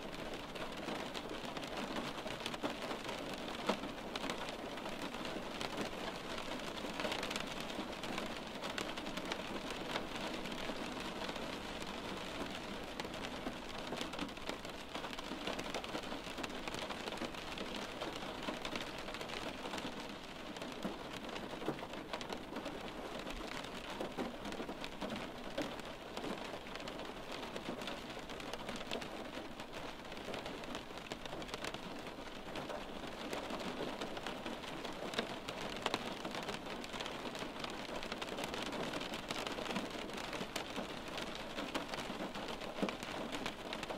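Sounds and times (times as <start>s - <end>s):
rain on a window pane: 0.0s - 43.9s.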